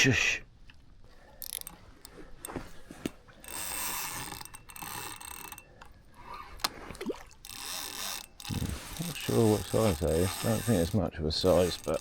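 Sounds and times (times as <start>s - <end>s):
fishing reel whirring and ratcheting: 1.3s - 6.8s, 7.4s - 12.0s
sharp reel clicks: 1.4s - 6.8s, 7.4s - 12.0s.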